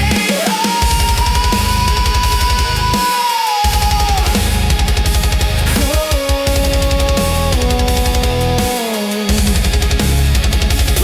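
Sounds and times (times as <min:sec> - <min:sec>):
fast heavy low drumming: 0:00.0 - 0:11.0.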